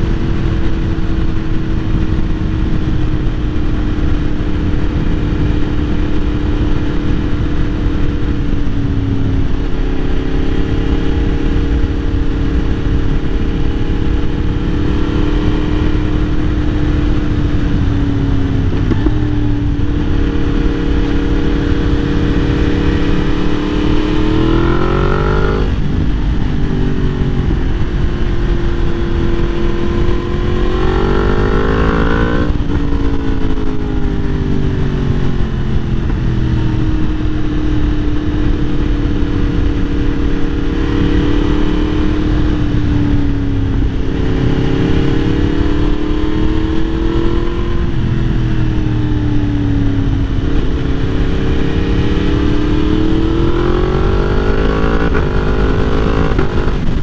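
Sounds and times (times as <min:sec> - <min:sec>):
motorcycle engine revving and shifting: 0:00.0 - 0:57.0.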